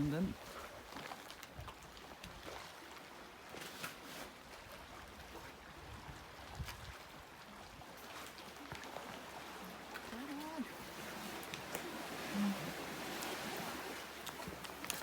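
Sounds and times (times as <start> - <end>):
moving water: 0.0 - 15.0.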